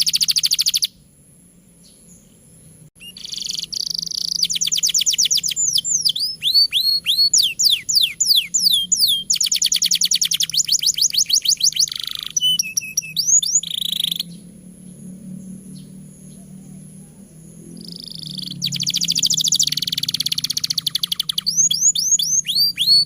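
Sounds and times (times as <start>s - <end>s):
canary singing: 0.0s - 1.0s, 1.8s - 23.0s.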